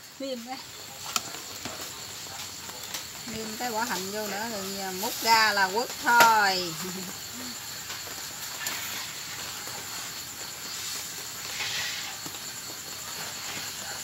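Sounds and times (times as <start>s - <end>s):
high insect trill: 0.0s - 14.0s
steady hiss: 0.0s - 14.0s.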